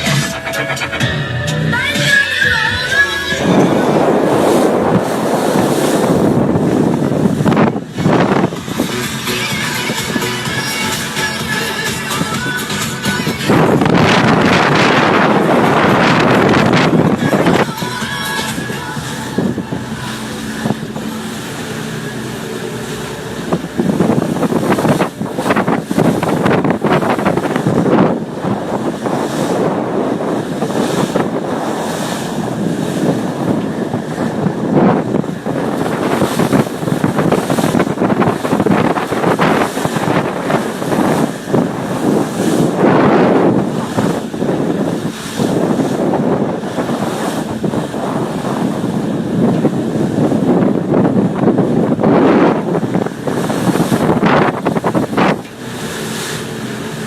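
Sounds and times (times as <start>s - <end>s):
waves splashing: 0.0s - 57.0s
wind buffeting microphone: 1.7s - 57.0s.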